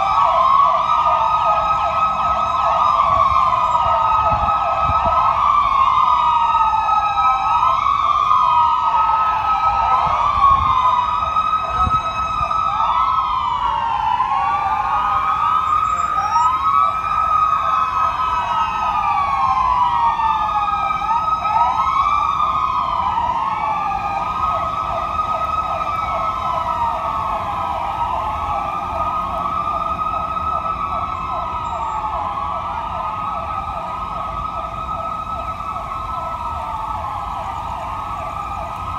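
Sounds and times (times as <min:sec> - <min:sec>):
police sirens wailing: 0:00.0 - 0:38.9.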